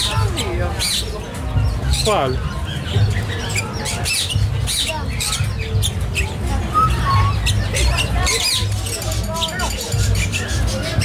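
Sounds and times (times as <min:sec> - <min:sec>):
lovebirds squawking and chirping: 0:00.0 - 0:11.0.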